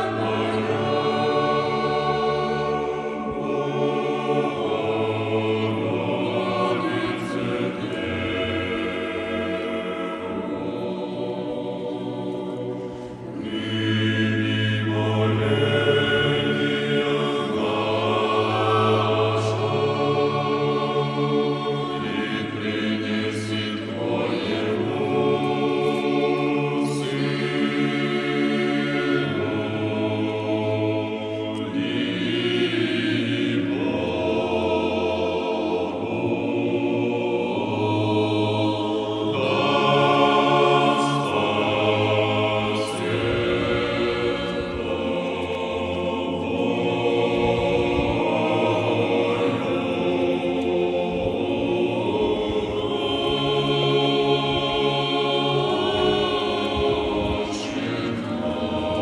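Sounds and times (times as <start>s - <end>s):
choir chanting slowly: 0.0s - 59.0s.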